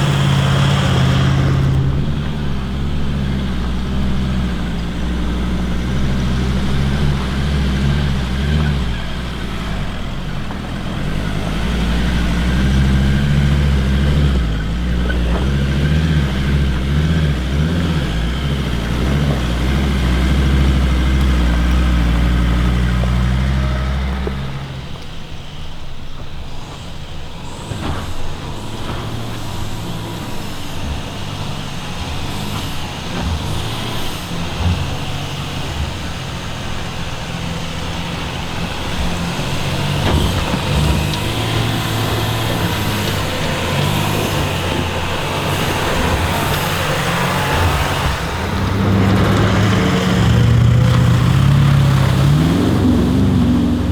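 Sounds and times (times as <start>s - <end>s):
off-road vehicle engine working hard: 0.0s - 53.9s.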